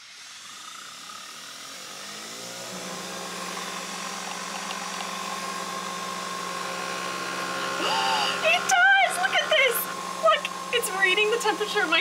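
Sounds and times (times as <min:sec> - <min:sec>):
coffee maker humming: 0:00.0 - 0:12.0.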